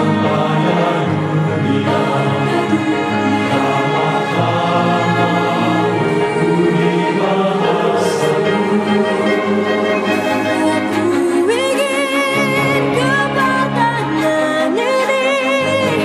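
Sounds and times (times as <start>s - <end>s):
choir singing with orchestra: 0.0s - 16.0s.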